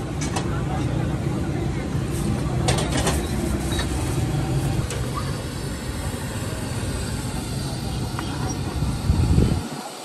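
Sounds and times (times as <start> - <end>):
rumble of passing vehicles: 0.0 - 9.8.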